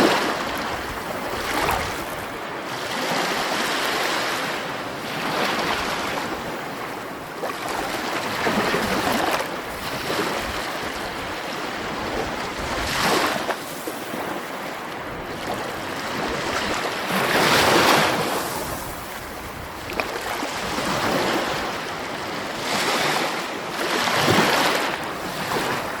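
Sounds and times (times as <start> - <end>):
sea waves breaking on shore: 0.0 - 26.0.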